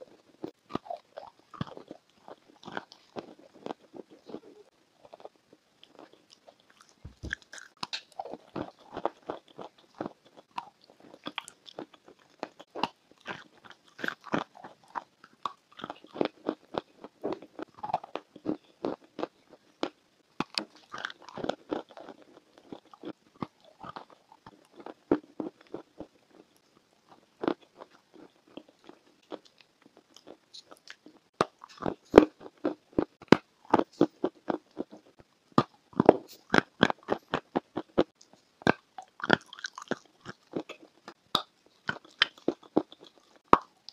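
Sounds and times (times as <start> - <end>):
chalk crunching while chewed: 5.0 - 26.5, 27.1 - 43.9.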